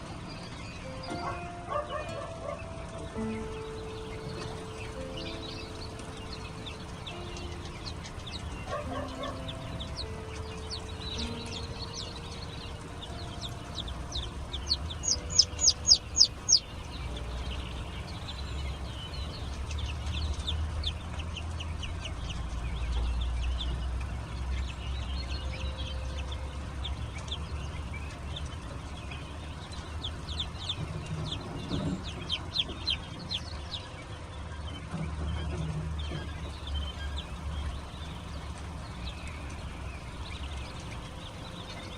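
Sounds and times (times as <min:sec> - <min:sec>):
chicks peeping: 0:00.0 - 0:41.9.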